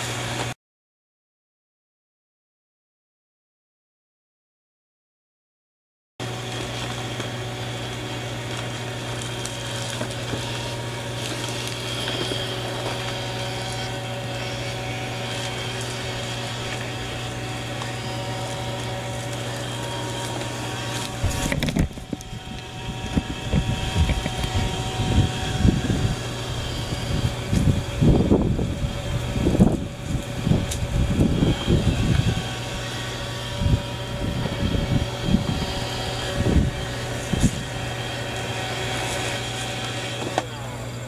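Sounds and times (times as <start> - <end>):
robot vacuum motor hum: 6.2 - 41.0.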